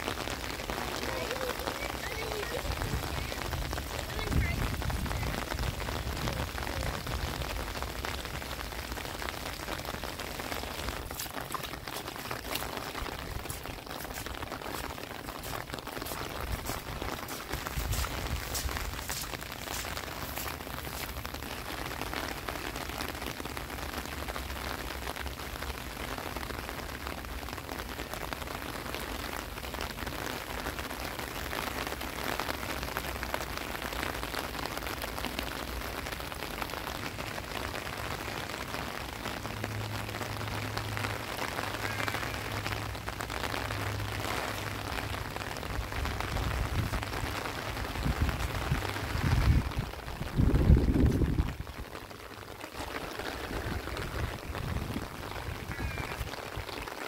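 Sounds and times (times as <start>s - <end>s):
rain falling on grass and water: 0.0s - 57.0s.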